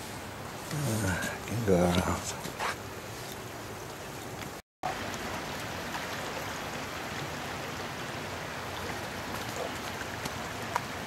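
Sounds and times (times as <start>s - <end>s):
floodwater rushing in creek: 0.0s - 11.0s.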